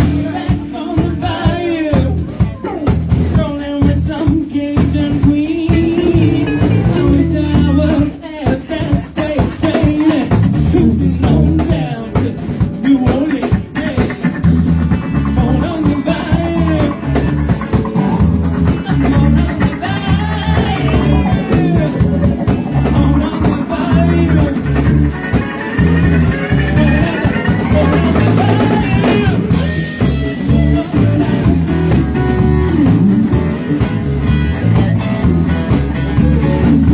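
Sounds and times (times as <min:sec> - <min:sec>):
person singing: 0:00.0 - 0:33.0
bass guitar: 0:00.0 - 0:36.9
drum kit: 0:00.0 - 0:36.9
electric guitar: 0:00.0 - 0:36.9.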